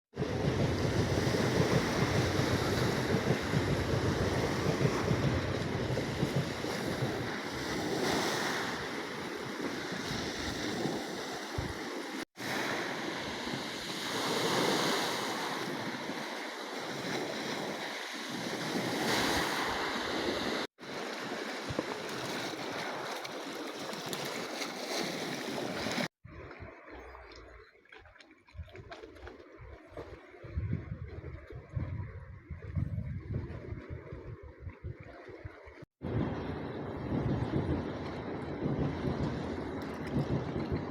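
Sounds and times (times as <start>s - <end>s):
wind rumbling on microphone: 0.2s - 23.2s, 28.5s - 40.9s
sea waves washing in: 0.2s - 26.9s, 33.5s - 40.9s.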